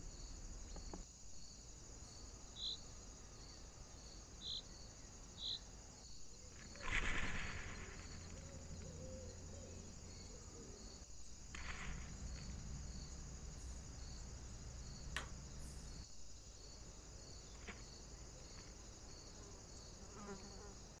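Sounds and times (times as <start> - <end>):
insect buzz: 0.0 - 21.0.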